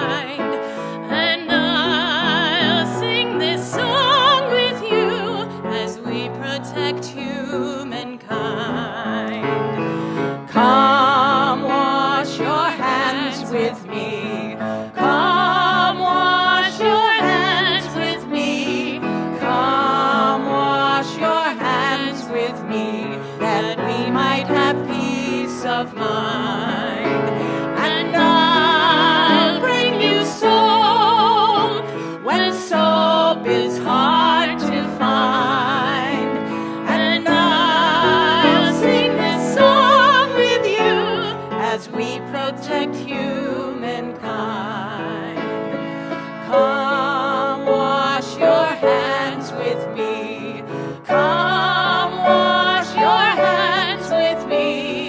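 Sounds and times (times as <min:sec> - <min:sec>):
grand piano: 0:00.0 - 0:55.0
women singing a hymn: 0:00.0 - 0:55.0.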